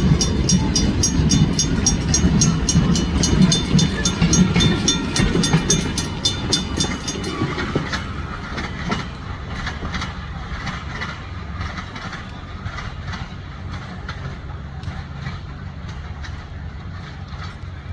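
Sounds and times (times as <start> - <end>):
low train rumble: 0.0 - 17.9
train wheels clicking over rail joints: 0.0 - 17.9.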